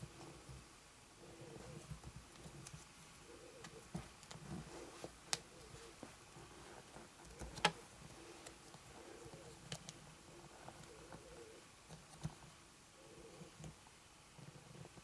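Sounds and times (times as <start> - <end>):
faint rustling: 0.0 - 12.6.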